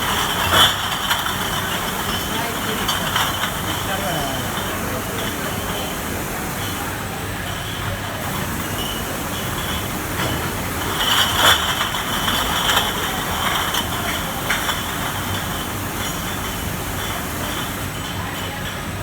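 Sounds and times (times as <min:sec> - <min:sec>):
washing machine mechanical noise: 0:00.0 - 0:19.0.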